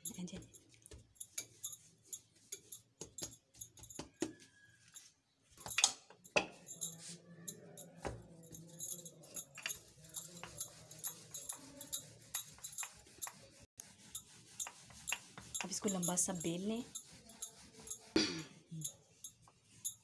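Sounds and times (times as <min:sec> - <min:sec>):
hands kneading dough on stone: 0:00.0 - 0:05.7, 0:06.8 - 0:18.2.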